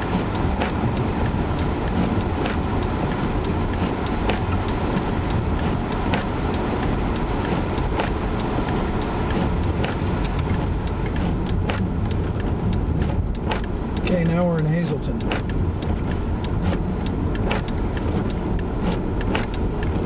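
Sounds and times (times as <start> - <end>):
car interior road rumble: 0.0 - 20.0
faint sharp clicks: 1.5 - 20.0.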